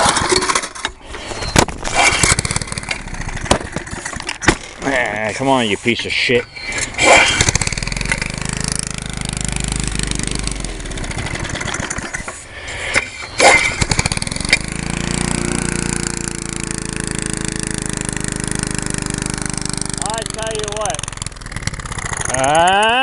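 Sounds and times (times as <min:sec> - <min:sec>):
lawnmower engine running: 0:00.0 - 0:23.0.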